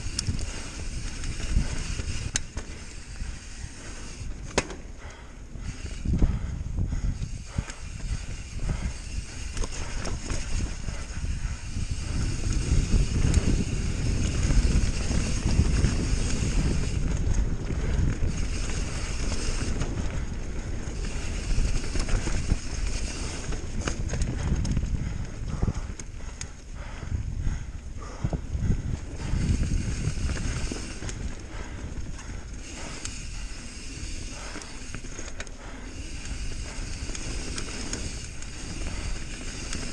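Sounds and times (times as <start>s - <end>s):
bike rattling over bumps: 0.0s - 39.9s
bike tyres rumbling on dirt: 0.0s - 39.9s
wind on microphone: 0.0s - 39.9s.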